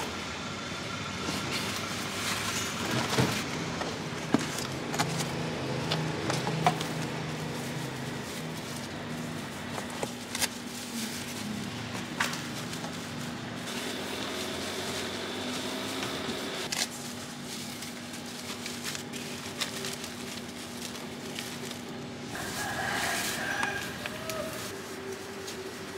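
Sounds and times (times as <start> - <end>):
vehicle engine running: 0.0 - 22.6
street traffic hum: 0.0 - 25.9.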